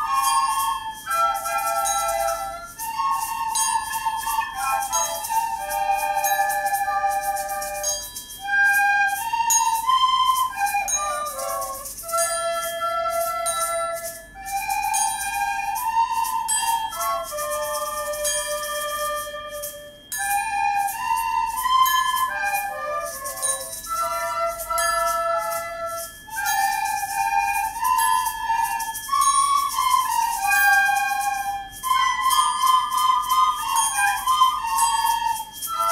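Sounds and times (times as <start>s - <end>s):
light percussion beat: 0.0s - 35.9s
recorder ensemble playing: 0.0s - 35.9s.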